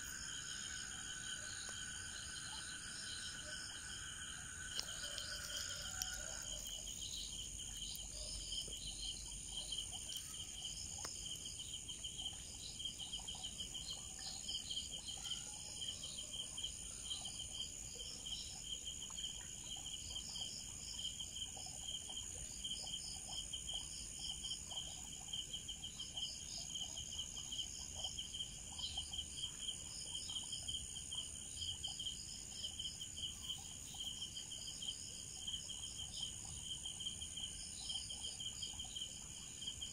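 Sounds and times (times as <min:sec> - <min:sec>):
cricket chirps: 0:00.0 - 0:39.9
insects trilling: 0:00.0 - 0:39.9.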